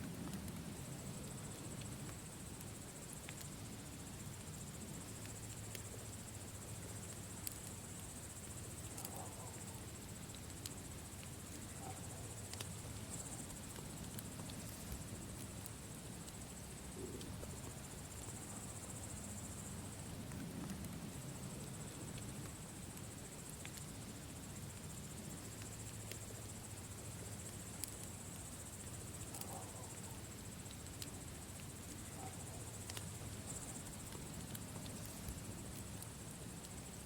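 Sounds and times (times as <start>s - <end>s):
campfire crackling: 0.0s - 37.0s
crickets chirring: 0.0s - 37.0s.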